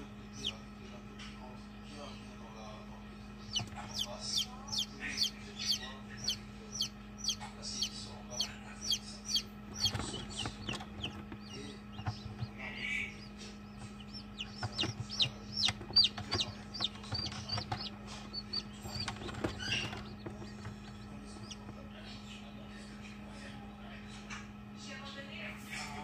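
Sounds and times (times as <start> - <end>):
chicks peeping: 0.0 - 24.6
steady low hum: 0.0 - 26.0.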